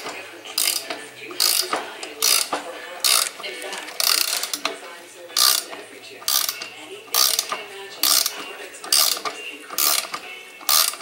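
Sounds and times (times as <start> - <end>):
ratcheting wrench clicking: 0.0 - 11.0.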